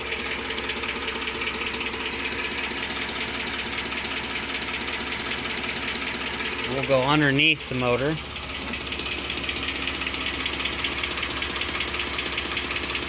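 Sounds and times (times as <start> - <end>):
car engine idling: 0.0 - 13.0
fast ticking from engine: 0.0 - 13.0.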